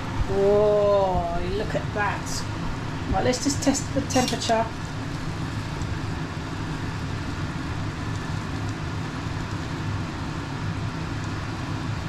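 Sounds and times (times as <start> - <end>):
cooker fan humming: 0.0 - 12.0.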